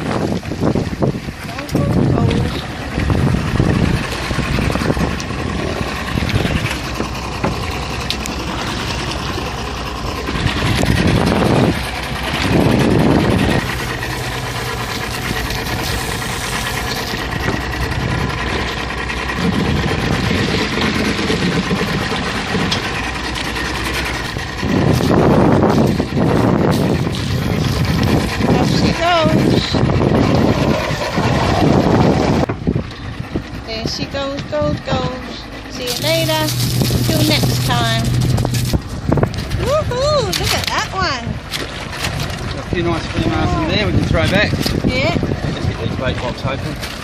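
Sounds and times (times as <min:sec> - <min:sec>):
boat engine running: 0:00.0 - 0:47.0
low rushes: 0:00.0 - 0:47.0
wind and water noise: 0:00.0 - 0:47.0.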